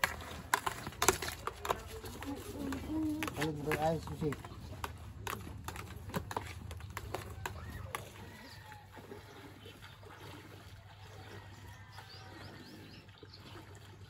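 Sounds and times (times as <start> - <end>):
faint outdoor background: 0.0 - 14.0
water sloshing in a basin: 0.0 - 14.0.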